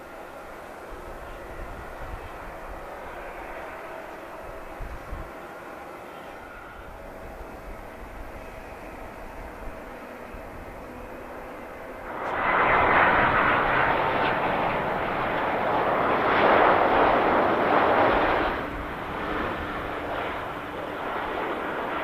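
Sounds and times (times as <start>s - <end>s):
airliner engines rushing: 0.0s - 22.0s.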